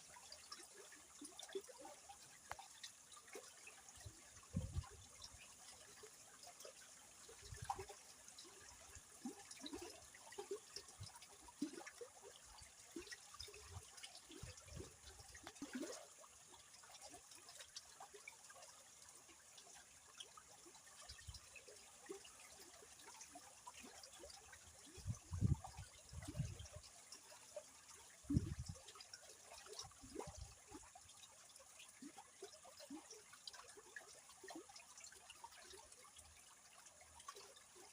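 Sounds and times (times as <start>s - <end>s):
river water trickling and gurgling: 0.0s - 37.9s.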